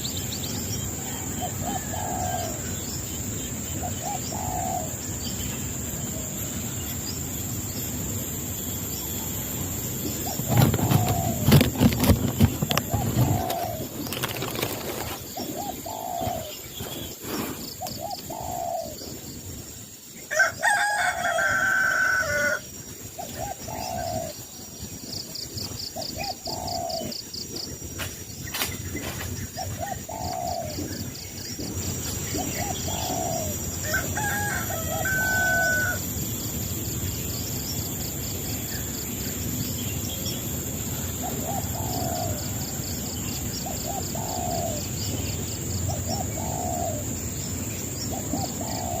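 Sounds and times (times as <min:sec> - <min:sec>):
bird calls: 0:00.0 - 0:07.2, 0:09.0 - 0:19.4, 0:20.4 - 0:36.0, 0:38.6 - 0:49.0.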